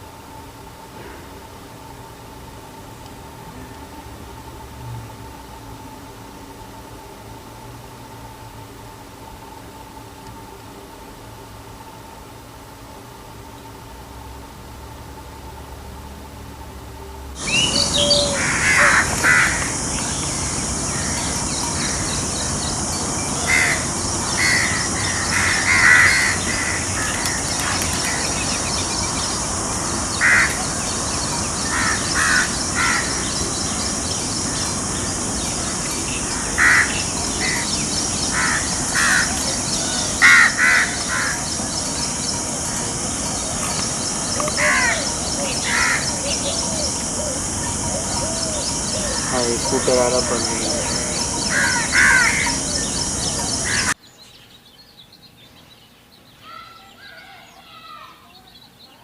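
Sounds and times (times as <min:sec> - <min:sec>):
steady high-pitched hiss: 0:00.0 - 0:59.0.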